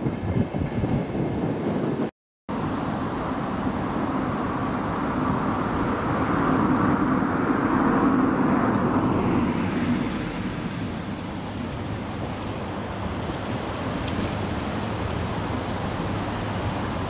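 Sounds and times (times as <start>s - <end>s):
road vehicle passing: 2.6s - 17.0s.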